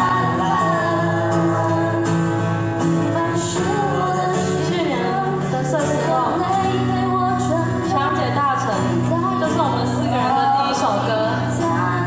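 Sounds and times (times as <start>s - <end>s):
acoustic band playing: 0.0s - 12.0s
person singing: 0.0s - 12.0s.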